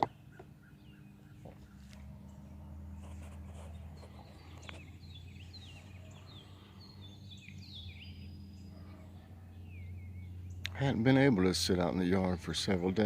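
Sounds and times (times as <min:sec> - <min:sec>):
songbirds singing: 0:00.0 - 0:13.0
steady low hum: 0:00.0 - 0:13.0.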